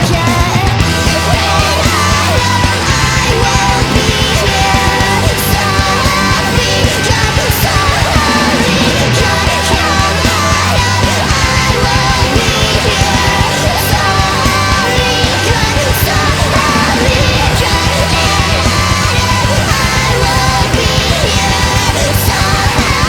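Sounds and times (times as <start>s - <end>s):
sped-up metalcore song: 0.0s - 23.0s.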